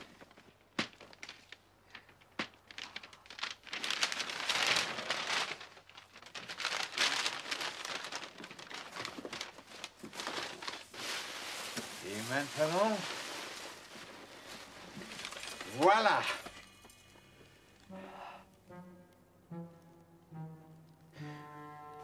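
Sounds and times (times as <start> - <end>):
wrapping paper crackling: 0.0 - 17.9.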